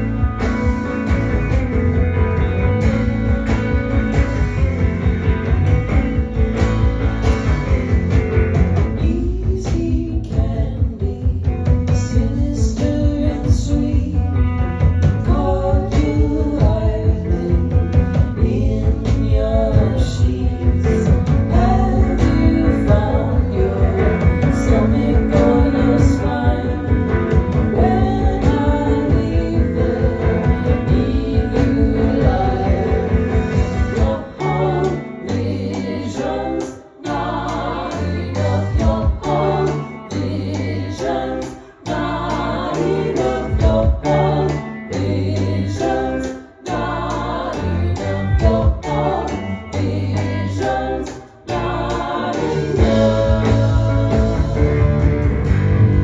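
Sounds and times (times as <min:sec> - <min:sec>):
live band playing: 0:00.0 - 0:56.0
person singing: 0:08.8 - 0:55.3.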